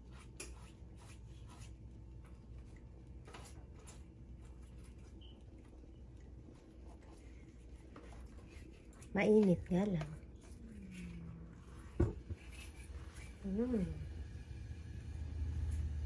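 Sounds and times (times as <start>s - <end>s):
basting brush scratching skin: 0.0s - 5.4s, 6.3s - 13.9s
low steady hum: 0.0s - 16.0s.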